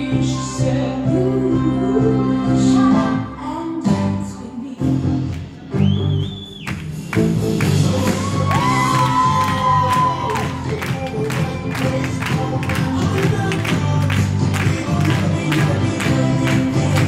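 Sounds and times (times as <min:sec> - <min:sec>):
stage-show music with singing: 0:00.0 - 0:17.0.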